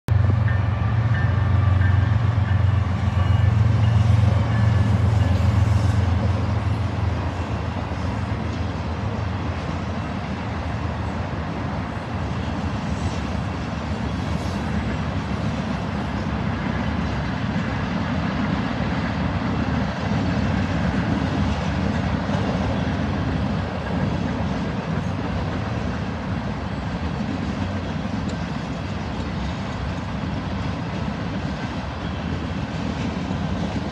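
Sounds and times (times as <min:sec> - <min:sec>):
diesel locomotive engine drone: 0:00.1 - 0:33.9
freight cars rolling on track: 0:00.1 - 0:33.9.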